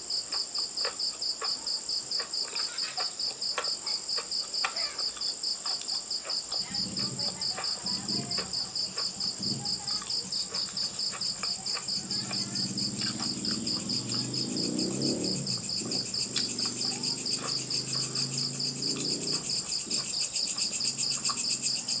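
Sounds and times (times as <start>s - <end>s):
cricket trilling: 0.0s - 22.0s.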